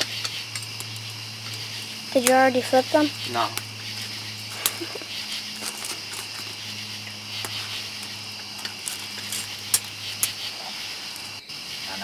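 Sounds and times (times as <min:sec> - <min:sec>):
night insects buzzing trill: 0:00.0 - 0:12.0.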